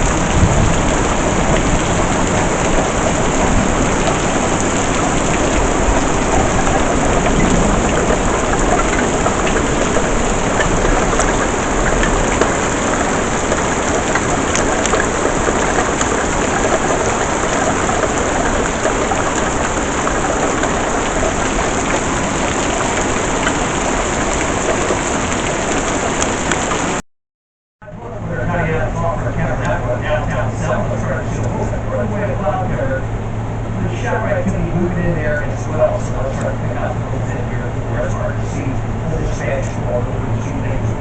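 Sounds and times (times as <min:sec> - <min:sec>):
heavy rain falling: 0:00.0 - 0:27.0, 0:27.8 - 0:41.0.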